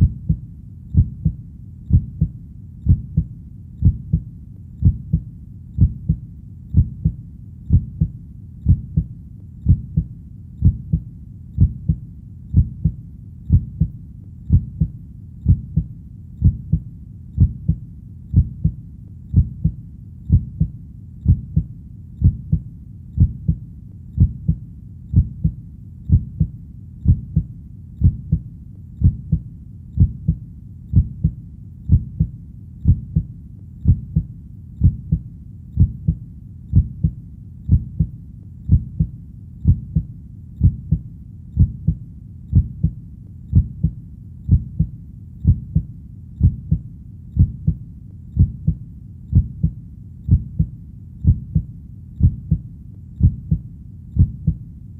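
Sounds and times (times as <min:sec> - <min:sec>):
heartbeat thuds: 0:00.0 - 0:23.6, 0:24.2 - 0:54.6.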